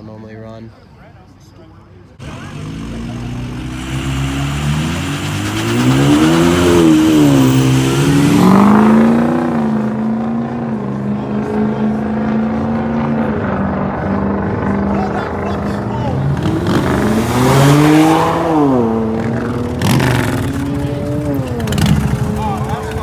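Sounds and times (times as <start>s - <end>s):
car engine revving: 2.2s - 23.0s.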